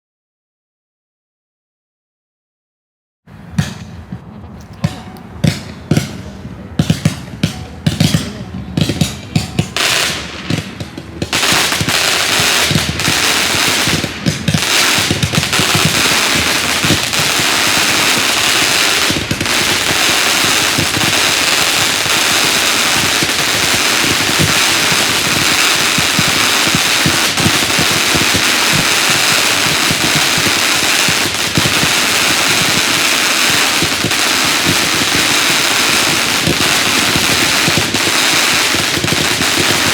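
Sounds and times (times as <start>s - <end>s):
firework pops: 3.6s - 39.9s
firework crackling: 4.0s - 39.9s.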